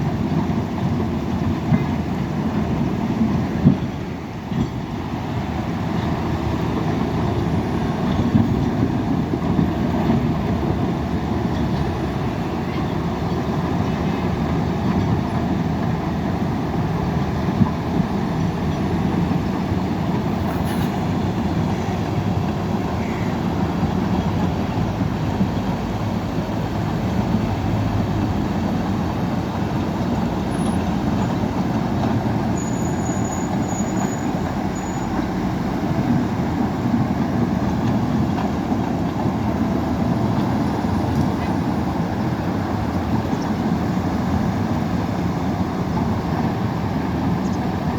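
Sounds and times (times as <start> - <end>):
heavy diesel machinery rumble: 0.0 - 47.9.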